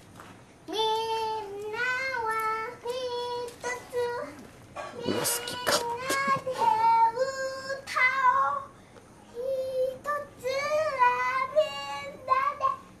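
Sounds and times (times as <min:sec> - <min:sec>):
child singing unaccompanied: 0:00.6 - 0:13.0.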